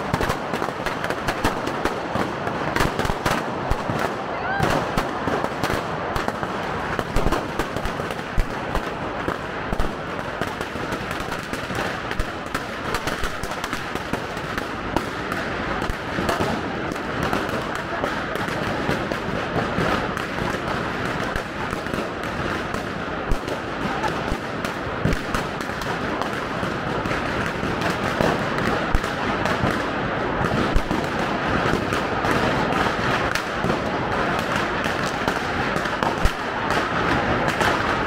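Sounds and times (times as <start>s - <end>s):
firecrackers crackling: 0.0s - 38.0s.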